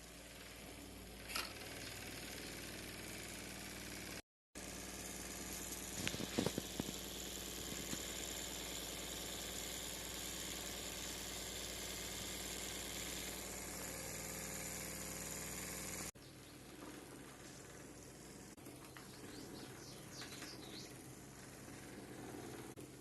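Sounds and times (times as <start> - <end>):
small motor running: 0.0 - 23.0.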